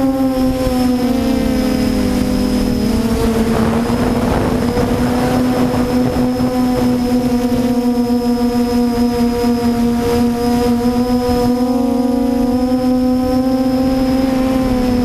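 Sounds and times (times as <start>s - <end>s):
drone propellers whining: 0.0s - 15.0s
wind rumble: 0.0s - 15.0s.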